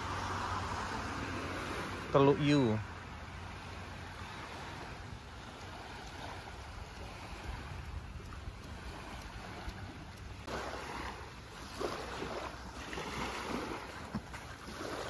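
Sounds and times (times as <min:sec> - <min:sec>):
small waves lapping on shore: 0:00.0 - 0:15.0
wind rumbling on microphone: 0:02.8 - 0:15.0.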